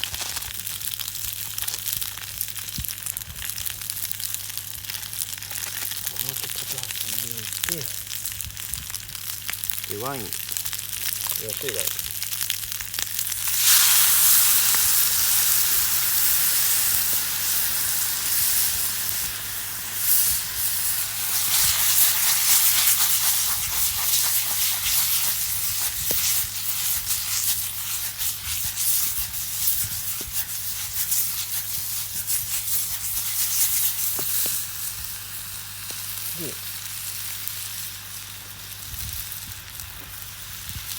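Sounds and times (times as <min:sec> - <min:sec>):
wine sizzling in a hot pan: 0:00.0 - 0:40.9.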